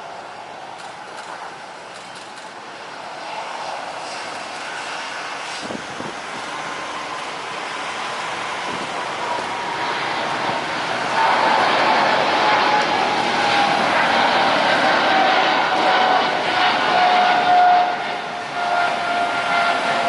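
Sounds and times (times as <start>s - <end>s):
jet airliner engines roaring: 0.0s - 20.0s
jet engine whine: 0.0s - 20.0s.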